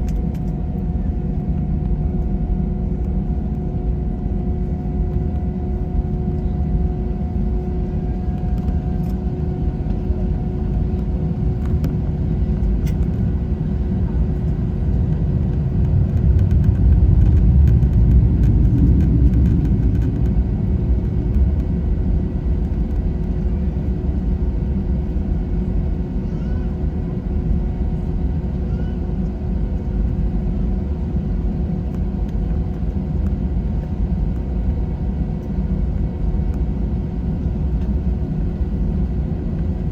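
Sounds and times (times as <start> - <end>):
steady whine: 0.0 - 36.7
jet engine rumble: 0.0 - 39.9.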